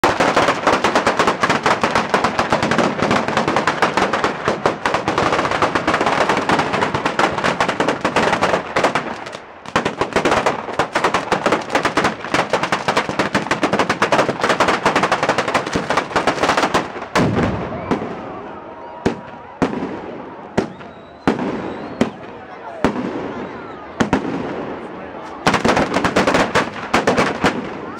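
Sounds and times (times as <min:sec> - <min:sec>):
firecrackers banging: 0:00.0 - 0:27.9.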